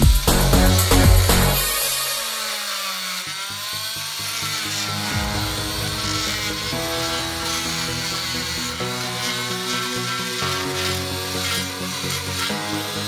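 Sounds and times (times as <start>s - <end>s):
background music: 0.0s - 2.2s, 3.8s - 13.0s
oscillating multi-tool cutting wood: 0.0s - 13.0s.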